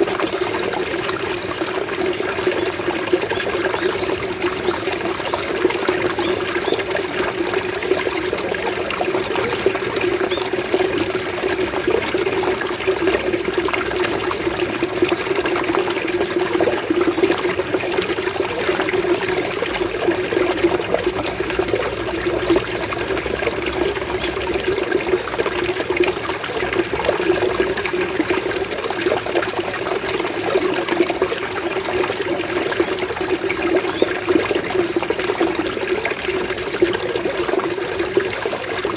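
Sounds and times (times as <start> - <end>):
running water gurgling: 0.0 - 38.9.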